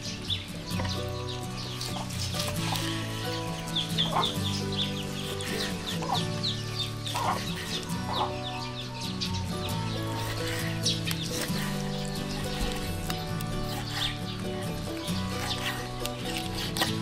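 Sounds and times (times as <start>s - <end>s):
chickens clucking: 0.0s - 17.0s
music of sustained low notes: 0.0s - 17.0s.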